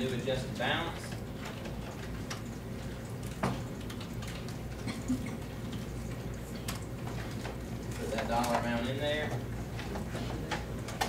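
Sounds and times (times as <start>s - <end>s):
low hum of computers: 0.0s - 11.0s.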